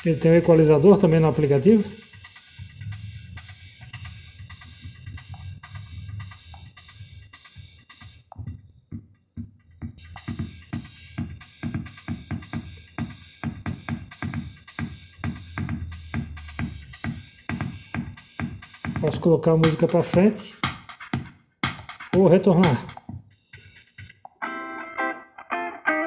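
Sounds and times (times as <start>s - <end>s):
electronic music with drum beat: 0.0s - 24.4s.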